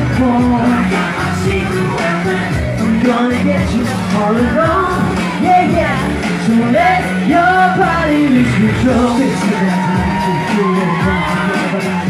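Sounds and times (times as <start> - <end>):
backing track with steady beat: 0.0 - 12.0
men singing pop music: 0.0 - 12.0.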